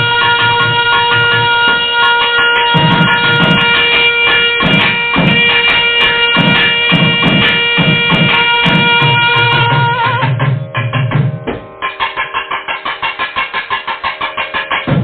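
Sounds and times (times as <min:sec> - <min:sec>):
drum strokes: 0:00.0 - 0:15.0.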